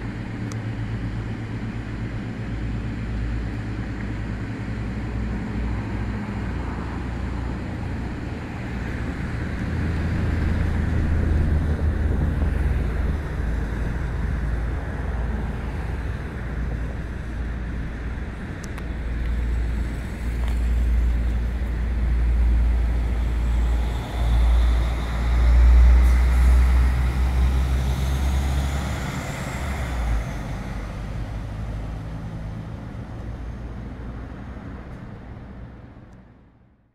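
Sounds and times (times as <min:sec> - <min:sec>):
railcar engine rumble: 0:00.0 - 0:36.7.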